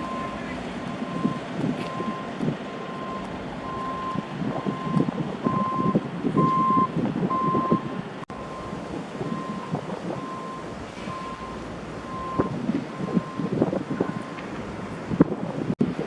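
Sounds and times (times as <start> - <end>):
vehicle reversing alarm beeping: 0.0 - 14.4
low street rumble: 0.0 - 16.0
wind: 0.0 - 16.0.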